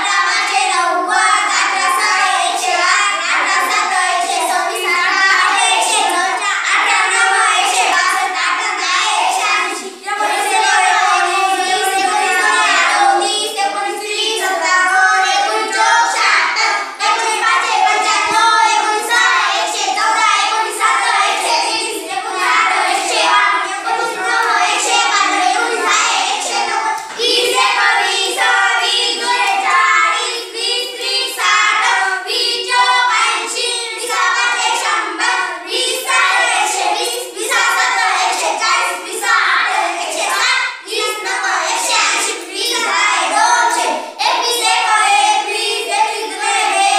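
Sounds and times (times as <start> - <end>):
children chanting in unison: 0.0 - 46.9.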